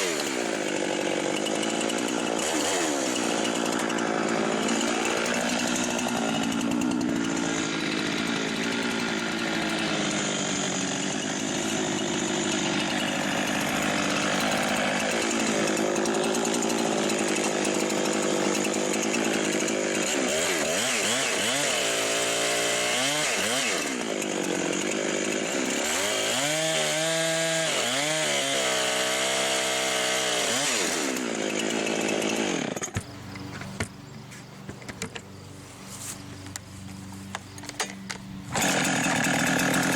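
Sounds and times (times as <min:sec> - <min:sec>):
chainsaw running at high speed: 0:00.0 - 0:33.9, 0:37.4 - 0:39.9.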